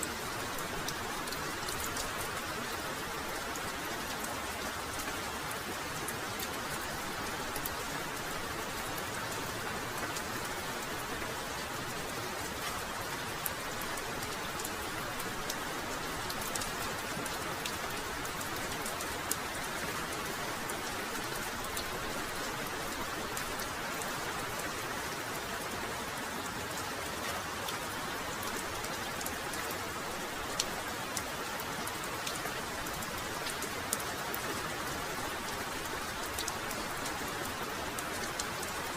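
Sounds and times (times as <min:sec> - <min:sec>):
raindrops clicking on surfaces: 0:00.0 - 0:38.9.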